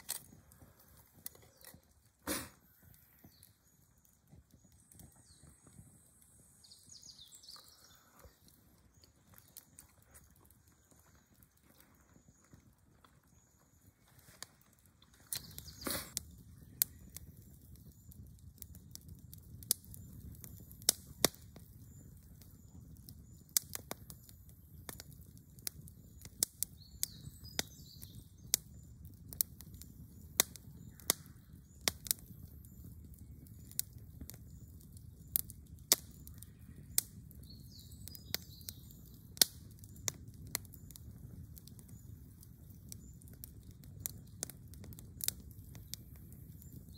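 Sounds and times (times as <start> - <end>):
campfire crackling and popping: 0.0 - 46.9
low rumble of flames: 0.0 - 46.9.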